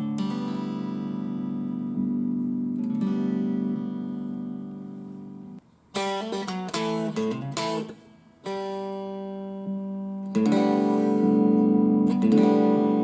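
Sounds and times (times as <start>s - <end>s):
electric guitar chords and notes: 0.0s - 13.0s.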